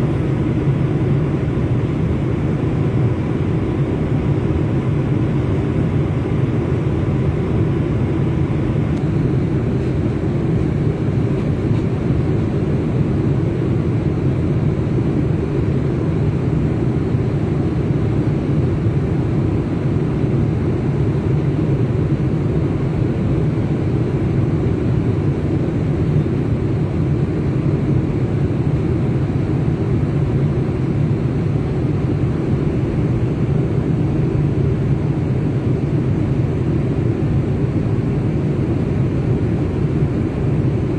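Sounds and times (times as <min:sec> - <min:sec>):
airliner cabin engine rush: 0:00.0 - 0:40.9.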